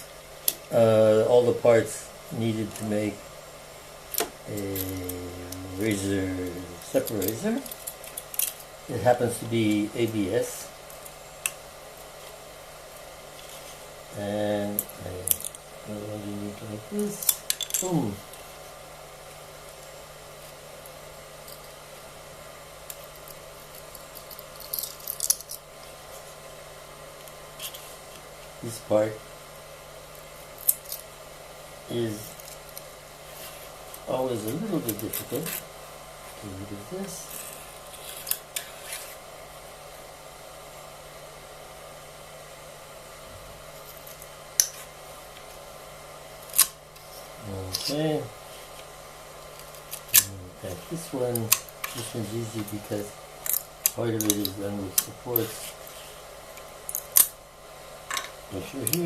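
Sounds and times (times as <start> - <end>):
fan whirring: 0.0 - 59.0
steady low hum: 0.0 - 59.0.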